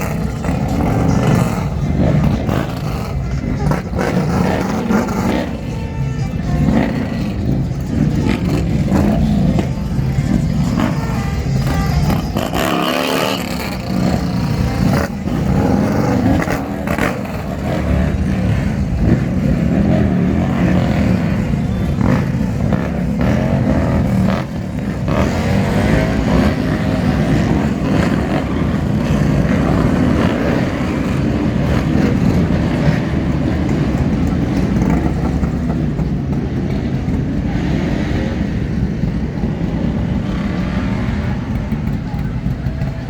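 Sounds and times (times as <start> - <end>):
vehicle engines rumbling: 0.0 - 43.0.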